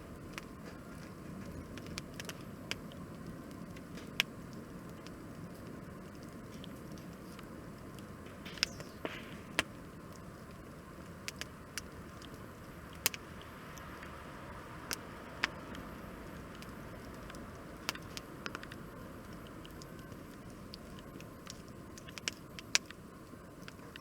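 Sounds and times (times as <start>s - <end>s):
fire hissing: 0.0s - 24.0s
campfire pops and snaps: 0.1s - 24.0s.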